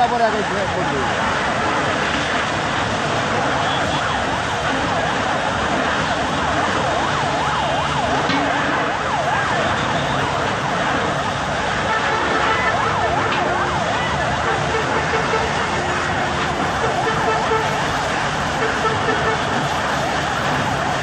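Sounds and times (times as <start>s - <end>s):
emergency siren wailing: 0.0s - 21.0s.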